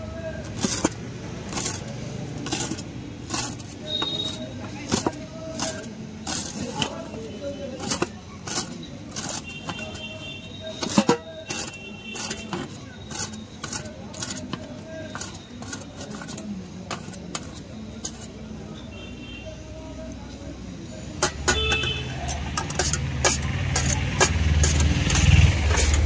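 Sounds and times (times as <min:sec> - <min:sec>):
traffic: 0:00.0 - 0:26.0.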